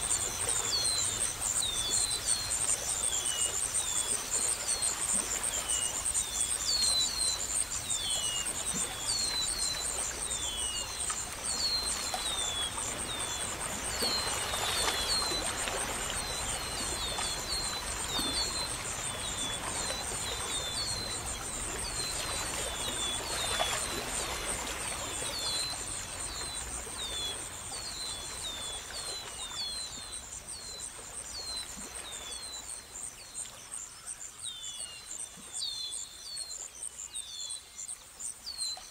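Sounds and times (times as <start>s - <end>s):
crickets trilling: 0.0s - 36.2s.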